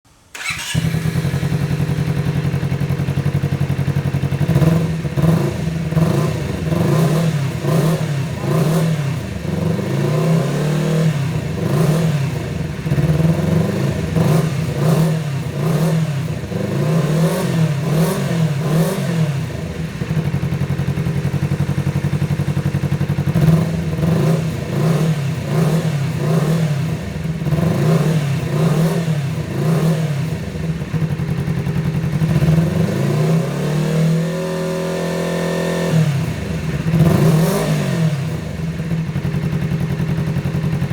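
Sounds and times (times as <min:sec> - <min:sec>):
motorcycle engine revving: 0:00.3 - 0:40.9.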